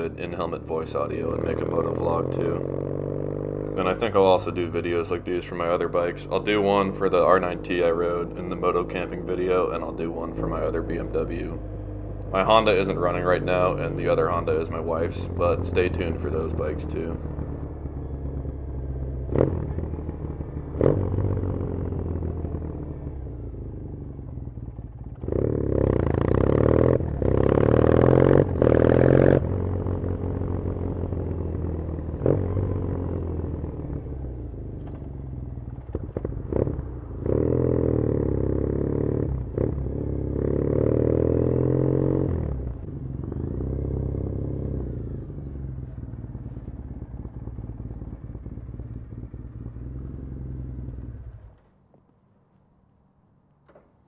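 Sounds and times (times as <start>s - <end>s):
motorcycle engine revving: 0.0s - 51.7s.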